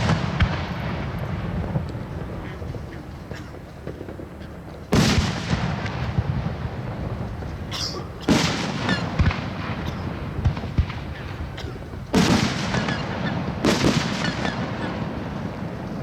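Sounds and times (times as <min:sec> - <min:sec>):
fireworks booming: 0:00.0 - 0:16.0
fireworks crackling: 0:00.0 - 0:16.0.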